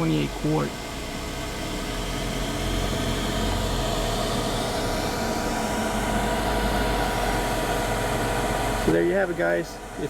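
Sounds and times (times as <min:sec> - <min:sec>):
cooler fan whirring: 0:00.0 - 0:10.0.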